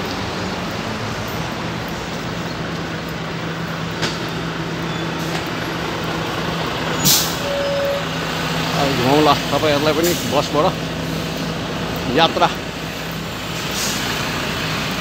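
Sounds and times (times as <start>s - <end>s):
traffic engine hum and road noise: 0.0s - 15.0s.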